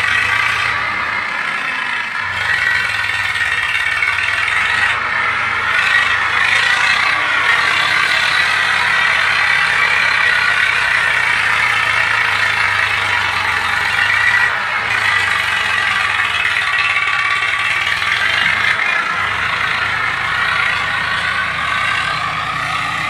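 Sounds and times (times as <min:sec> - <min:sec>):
tractor diesel engine under load: 0:00.0 - 0:23.0.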